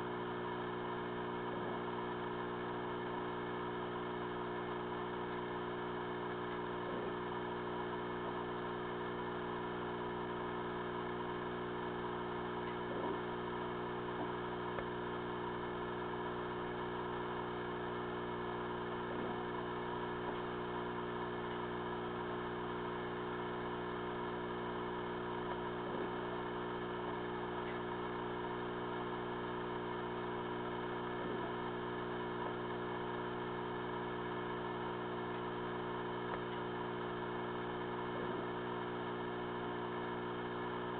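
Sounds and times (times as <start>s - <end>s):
electric hum: 0.0s - 40.9s.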